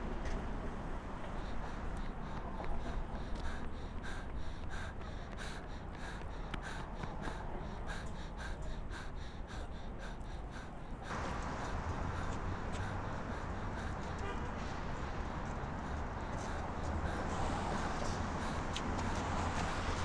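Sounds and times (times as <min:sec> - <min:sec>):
person panting hard: 0:01.1 - 0:20.0.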